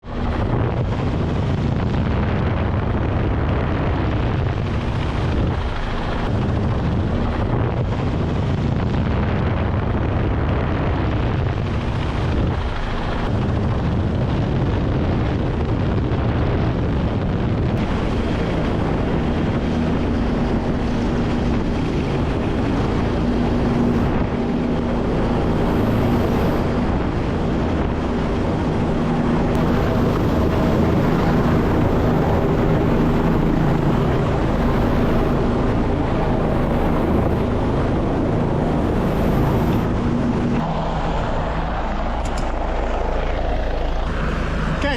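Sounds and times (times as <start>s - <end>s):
helicopter rotor and engine: 0.0s - 44.9s
steady hum: 0.0s - 44.9s.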